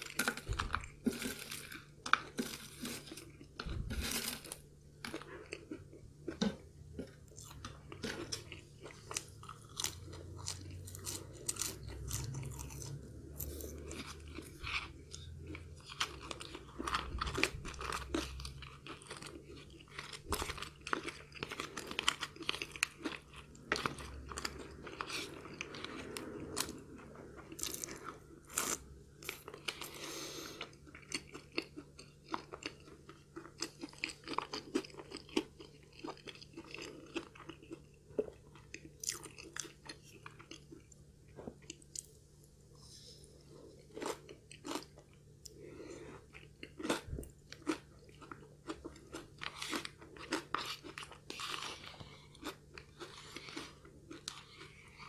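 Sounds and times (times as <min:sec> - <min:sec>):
person chewing with crunches: 0:00.0 - 0:55.0.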